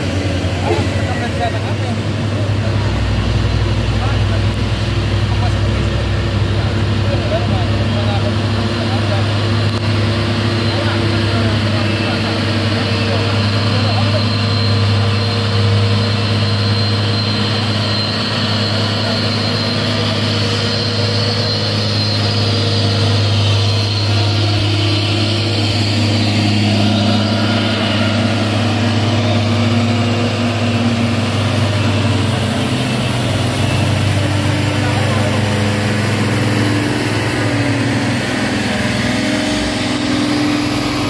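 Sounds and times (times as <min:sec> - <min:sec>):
cargo truck diesel engines: 0:00.0 - 0:41.0.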